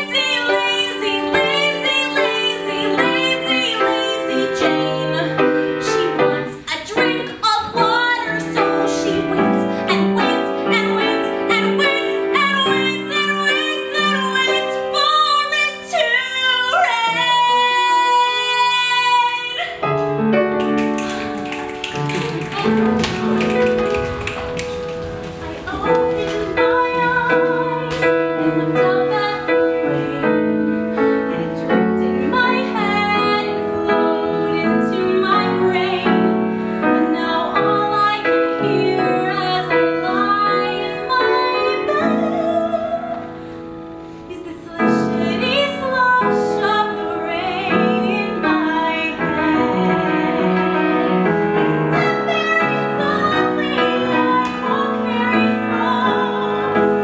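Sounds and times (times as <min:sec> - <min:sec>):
woman singing: 0:00.0 - 0:19.9, 0:25.4 - 0:43.5, 0:44.3 - 0:57.0
piano accompaniment: 0:00.0 - 0:57.0.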